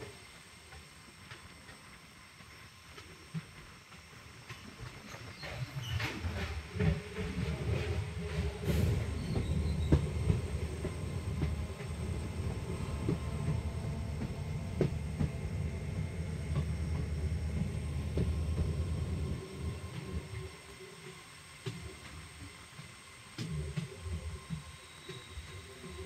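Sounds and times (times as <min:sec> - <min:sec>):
train wheels rumbling on rail: 0:00.2 - 0:26.0.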